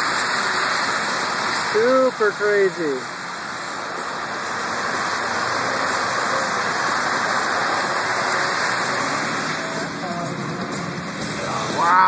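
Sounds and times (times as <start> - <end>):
rain hissing on car and road: 0.0 - 12.0.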